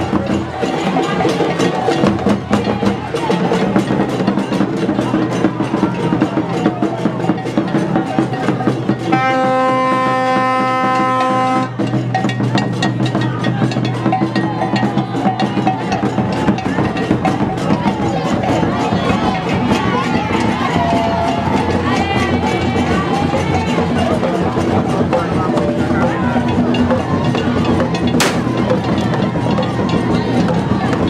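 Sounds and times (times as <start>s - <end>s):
festival drum and percussion music: 0.0s - 31.0s.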